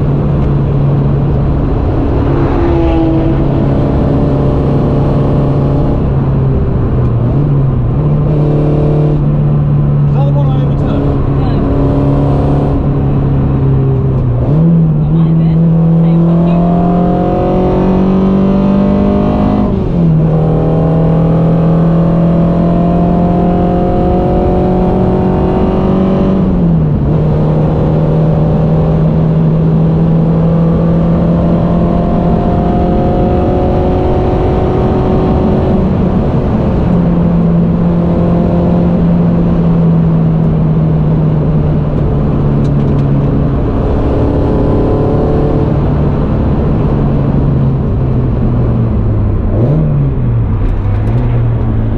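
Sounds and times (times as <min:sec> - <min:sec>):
car engine revving high: 0:00.0 - 0:51.9
tyre and road noise: 0:00.0 - 0:51.9.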